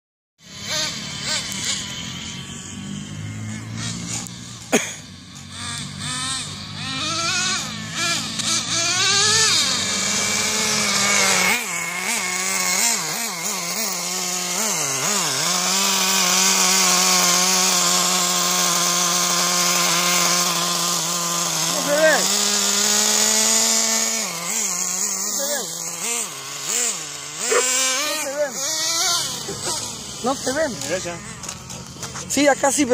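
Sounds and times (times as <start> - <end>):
small engine revving: 0.4 - 32.9.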